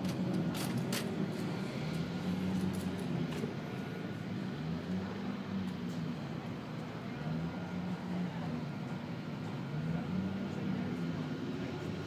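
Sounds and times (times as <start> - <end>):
distant car engines droning: 0.0 - 12.0.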